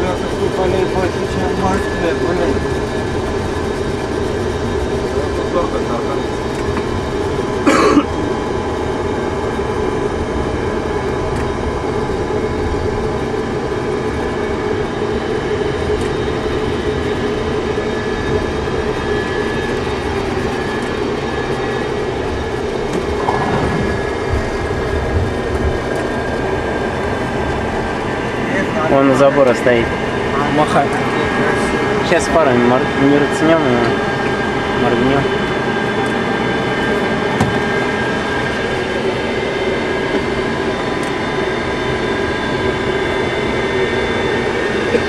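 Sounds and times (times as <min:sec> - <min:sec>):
aircraft cockpit rumble and whine: 0:00.0 - 0:45.0.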